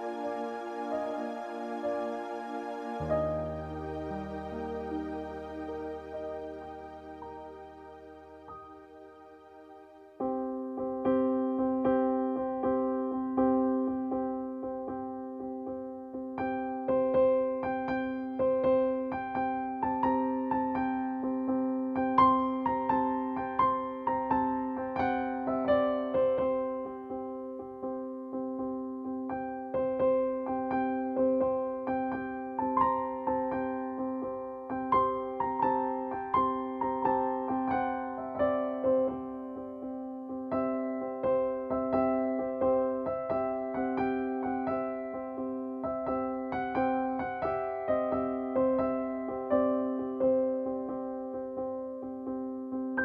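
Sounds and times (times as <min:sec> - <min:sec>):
electric piano repeated notes: 0:00.0 - 0:53.0.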